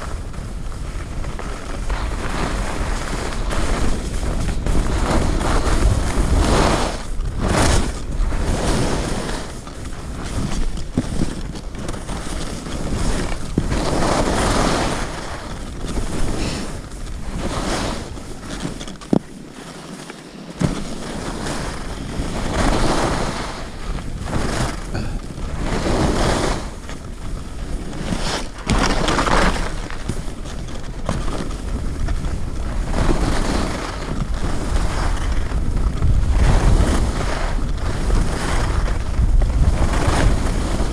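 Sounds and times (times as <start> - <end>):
wind rumble on microphone: 0.0 - 19.4, 20.6 - 40.9
skis swishing on snow: 0.0 - 40.9.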